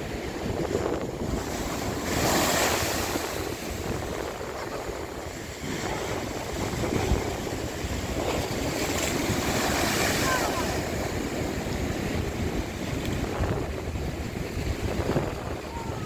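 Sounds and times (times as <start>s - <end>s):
waves crashing on rocks: 0.0s - 16.0s
wind buffeting microphone: 0.0s - 16.0s.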